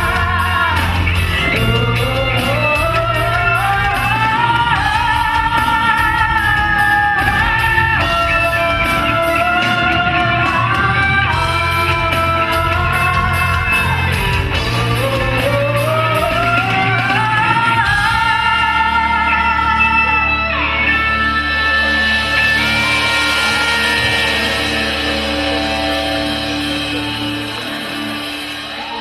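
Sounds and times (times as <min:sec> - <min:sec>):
woman singing: 0:00.0 - 0:27.8
rock band playing: 0:00.0 - 0:29.0.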